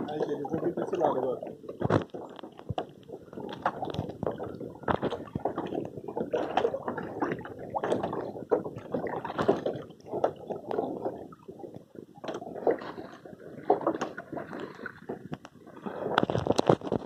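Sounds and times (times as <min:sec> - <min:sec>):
water splashing against canoe hull: 0:00.0 - 0:17.0.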